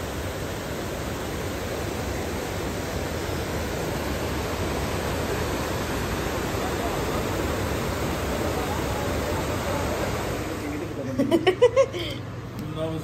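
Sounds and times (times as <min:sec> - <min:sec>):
stream cascading over boulders: 0:00.0 - 0:10.6.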